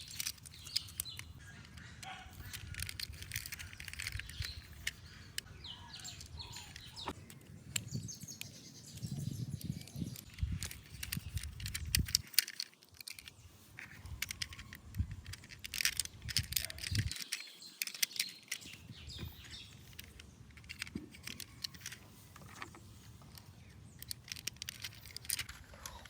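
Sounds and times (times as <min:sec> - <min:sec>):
plastic toy parts clicking: 0:00.0 - 0:26.0.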